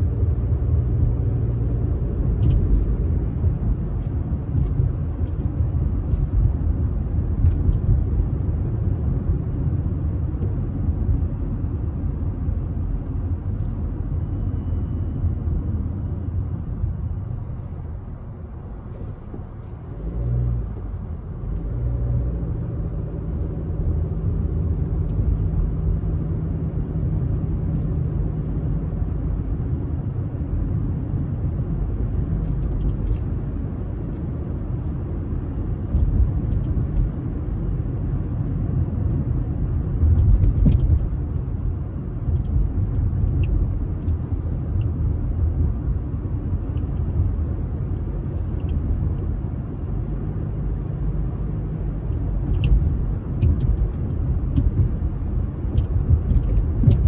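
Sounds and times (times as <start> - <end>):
road vehicle rumble: 0.0 - 57.0.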